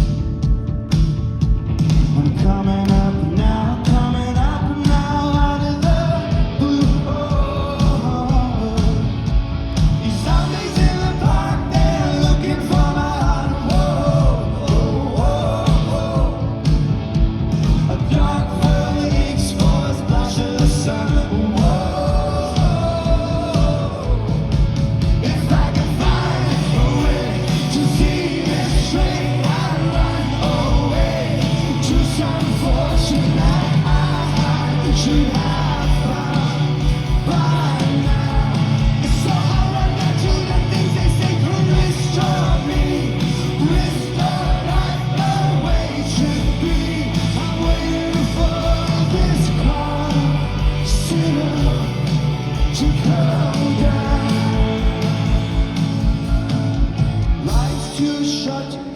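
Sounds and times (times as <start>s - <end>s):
live rock band: 0.0s - 58.9s.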